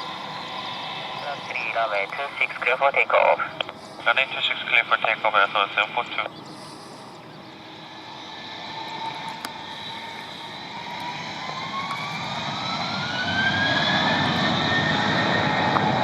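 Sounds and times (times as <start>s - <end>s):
deep engine rumble: 0.0s - 16.0s
jet engines spooling up: 0.0s - 16.0s.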